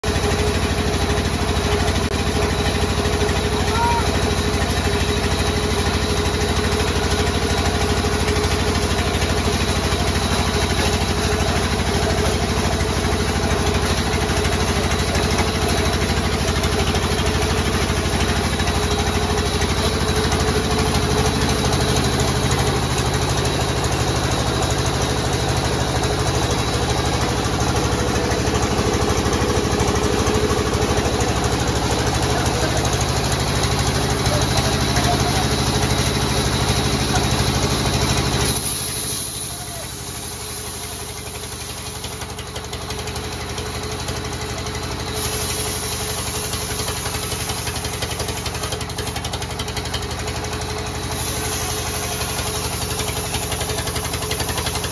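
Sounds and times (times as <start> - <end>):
band saw machine hum: 0.0 - 54.9.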